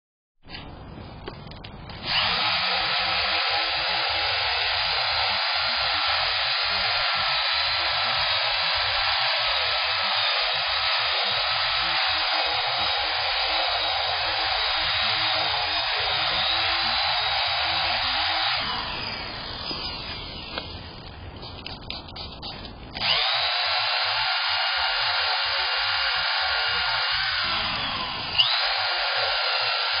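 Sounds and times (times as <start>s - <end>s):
power drill scrub brush whirring: 2.0s - 21.1s, 23.0s - 30.0s.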